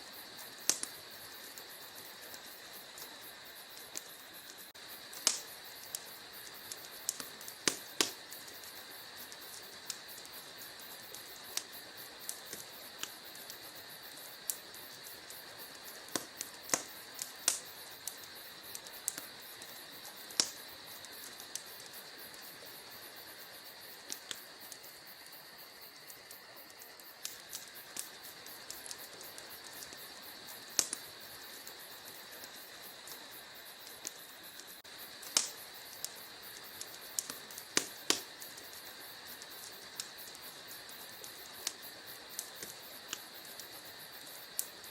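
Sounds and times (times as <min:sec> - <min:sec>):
steady hiss: 0:00.0 - 0:44.9
wood fire crackling: 0:00.0 - 0:44.9.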